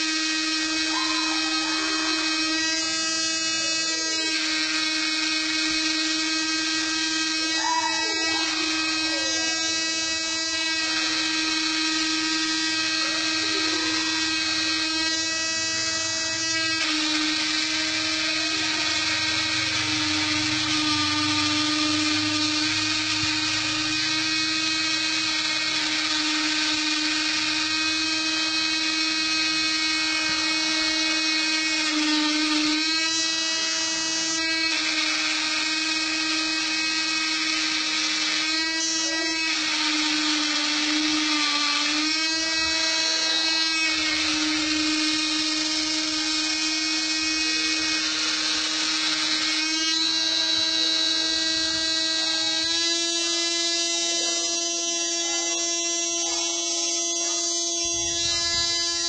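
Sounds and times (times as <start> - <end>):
spindle motor whine: 0.0 - 59.0
stepper motors shifting tones: 0.0 - 59.0.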